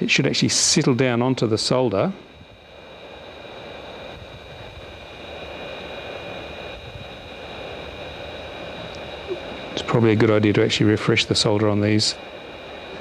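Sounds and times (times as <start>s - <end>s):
faint high whine: 0.0s - 13.0s
hot air blower hiss: 0.0s - 13.0s.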